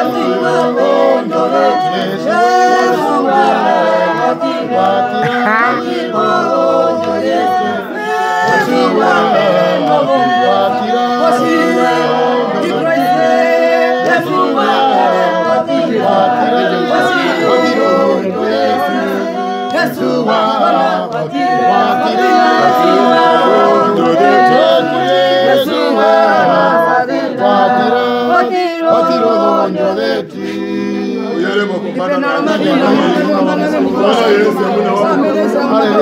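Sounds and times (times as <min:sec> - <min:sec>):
choir singing unaccompanied: 0:00.0 - 0:36.0.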